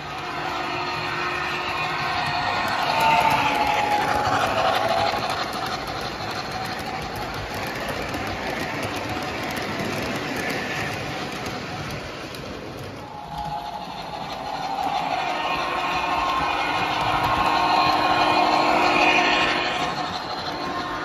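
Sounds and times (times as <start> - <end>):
model train wheels clattering: 0.0 - 21.0.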